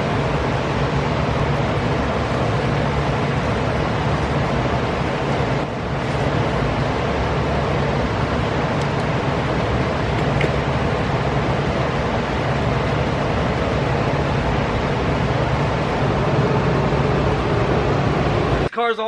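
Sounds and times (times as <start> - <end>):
low machine hum: 0.0 - 18.8.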